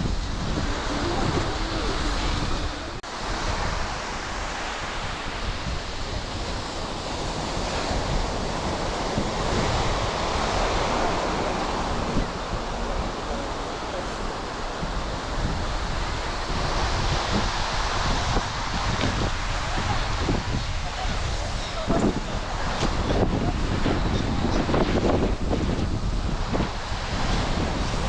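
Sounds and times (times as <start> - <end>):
ocean surf breaking on beach: 0.0 - 28.0
wind buffeting microphone: 0.0 - 28.0.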